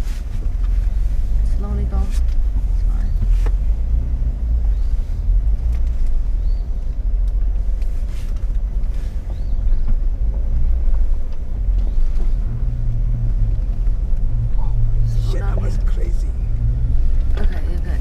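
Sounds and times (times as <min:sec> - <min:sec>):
engine low rumble: 0:00.0 - 0:18.0.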